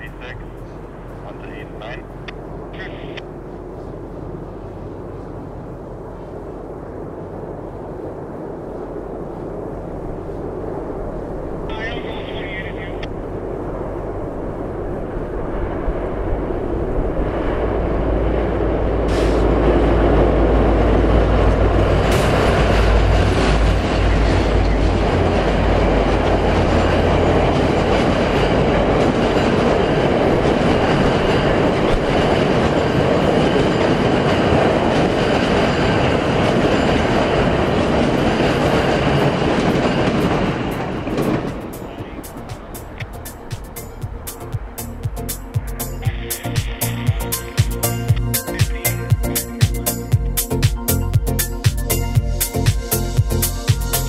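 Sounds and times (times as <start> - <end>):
diesel locomotive engine rumble: 0.0 - 54.0
train cars rolling across bridge: 0.0 - 54.0.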